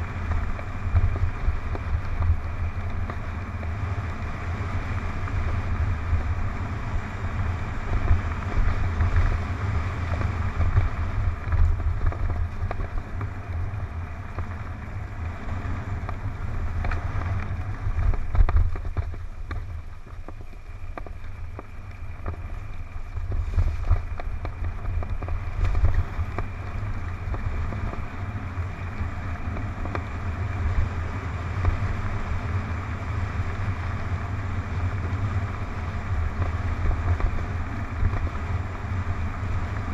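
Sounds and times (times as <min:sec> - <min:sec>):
bike knocking and rattling: 0:00.0 - 0:39.9
tyres rumbling on dirt: 0:00.0 - 0:39.9
wind buffeting microphone: 0:00.0 - 0:39.9.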